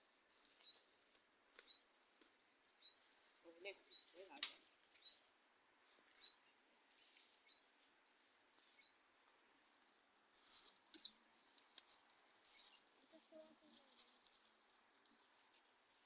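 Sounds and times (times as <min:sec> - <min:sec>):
high-pitched insect trill: 0:00.0 - 0:16.0
short insect chirp: 0:00.0 - 0:16.0.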